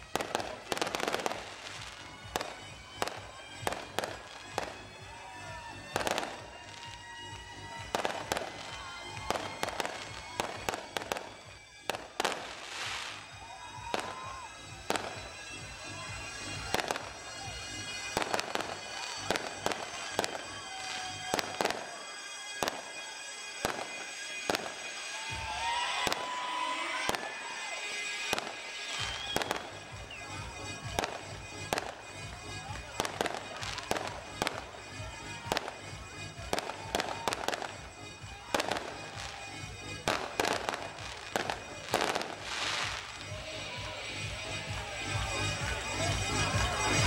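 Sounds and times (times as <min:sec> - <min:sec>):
background music: 0:00.0 - 0:47.0
fireworks bursting bangs: 0:00.0 - 0:47.0.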